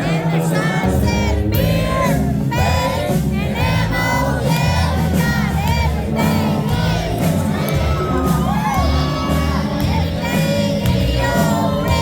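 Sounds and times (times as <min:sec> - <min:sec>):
crowd singing along: 0:00.0 - 0:12.0
live country band playing: 0:00.0 - 0:12.0.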